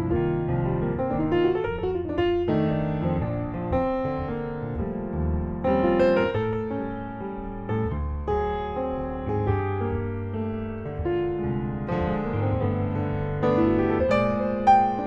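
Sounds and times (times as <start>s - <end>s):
solo jazz piano: 0.0s - 15.0s.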